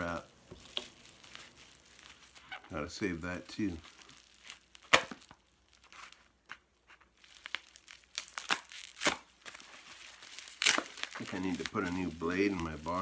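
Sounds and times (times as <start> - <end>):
bubble wrap crinkling and tearing: 0.0 - 13.0.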